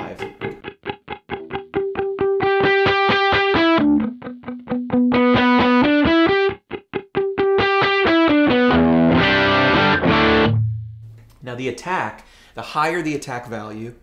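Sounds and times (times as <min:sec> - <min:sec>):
compressed electric guitar: 0:00.0 - 0:11.4.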